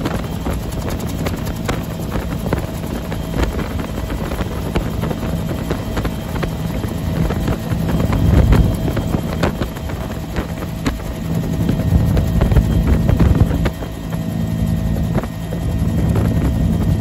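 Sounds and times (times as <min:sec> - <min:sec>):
helicopter turbine and rotor drone: 0:00.0 - 0:17.0
wind buffeting microphone: 0:00.0 - 0:17.0.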